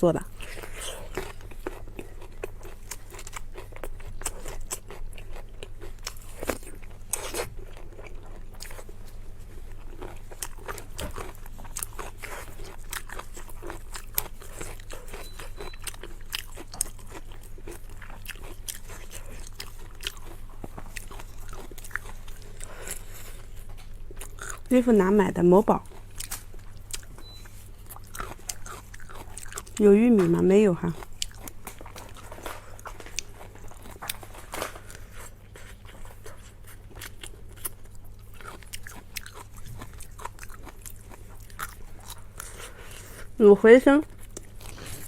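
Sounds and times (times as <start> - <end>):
chewing and biting food: 0.2 - 43.4, 44.0 - 45.0.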